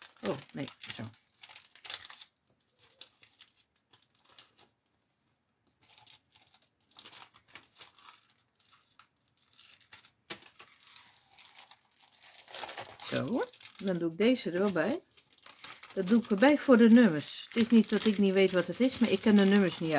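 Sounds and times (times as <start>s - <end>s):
plastic film crinkling: 0.0s - 4.9s, 5.6s - 19.9s.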